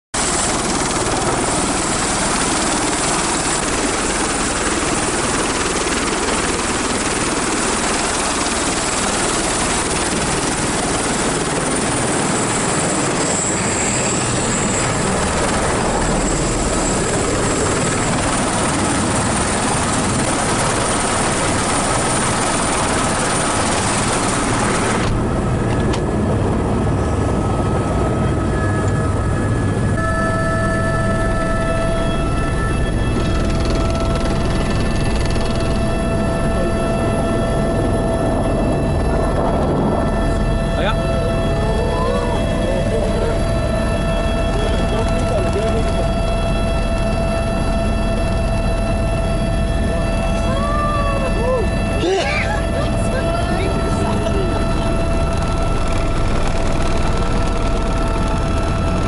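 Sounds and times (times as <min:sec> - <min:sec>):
helicopter turbine and rotor noise: 0:00.2 - 0:59.0
steady whining tones: 0:00.2 - 0:59.0.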